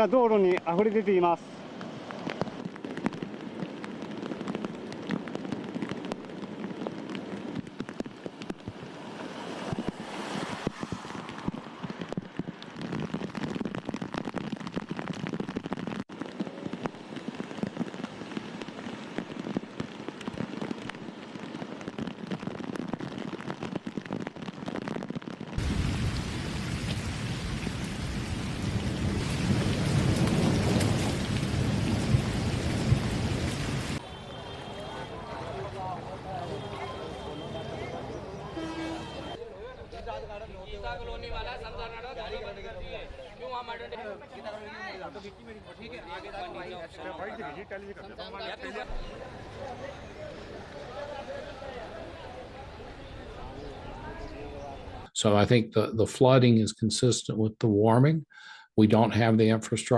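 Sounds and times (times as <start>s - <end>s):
heavy rain falling: 0.0s - 39.4s, 43.7s - 55.1s.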